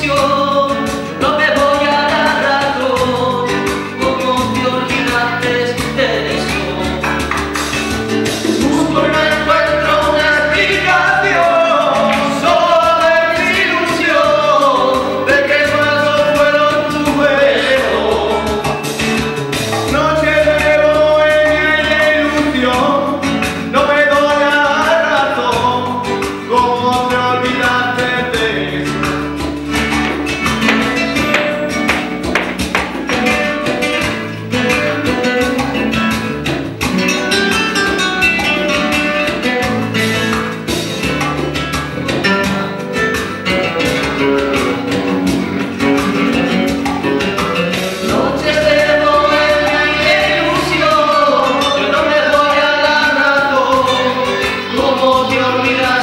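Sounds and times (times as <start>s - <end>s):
person singing into microphone: 0.0s - 36.3s, 43.6s - 56.0s
latin pop karaoke track: 0.0s - 56.0s
sharp strummed percussive strokes: 0.0s - 56.0s.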